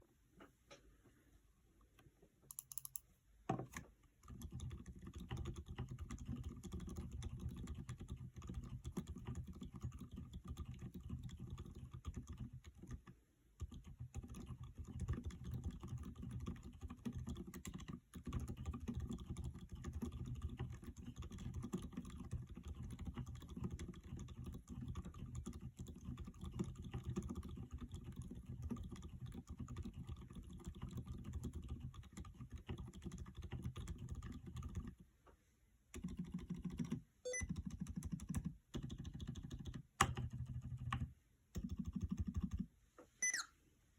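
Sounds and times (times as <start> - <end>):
typing on mechanical keyboard: 2.5 - 3.0, 3.7 - 35.0, 36.0 - 42.7.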